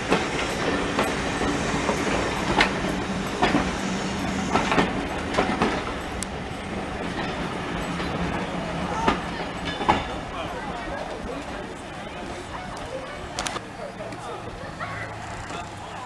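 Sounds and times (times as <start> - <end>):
train rumbling on track: 0.0 - 16.0
wheels clicking on rails: 0.0 - 16.0.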